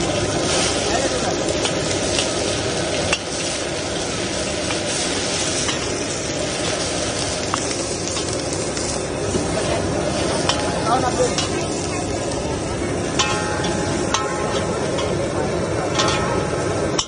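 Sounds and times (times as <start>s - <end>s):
egg sizzling in hot oil: 0.0s - 15.1s.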